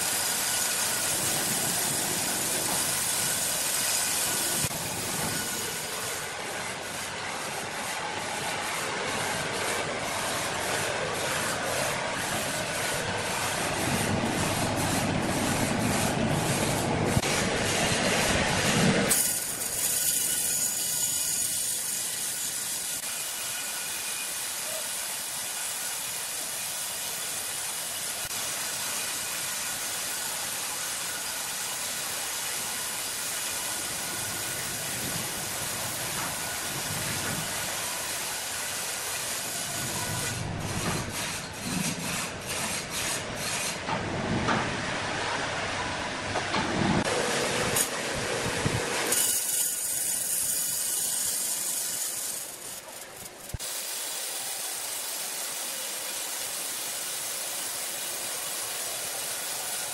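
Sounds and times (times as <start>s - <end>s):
band saw cutting wood: 0.0s - 24.9s, 25.5s - 44.1s, 48.7s - 59.9s.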